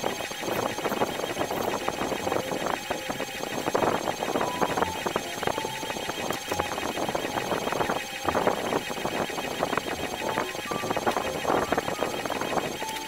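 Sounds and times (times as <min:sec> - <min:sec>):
inkjet printer clicking and whining: 0:00.0 - 0:13.0.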